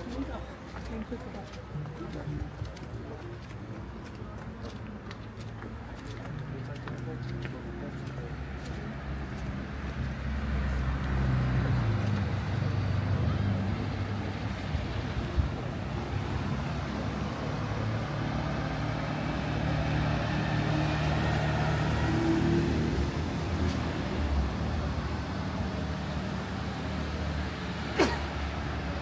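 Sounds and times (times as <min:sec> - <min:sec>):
street noise: 0:00.0 - 0:29.0.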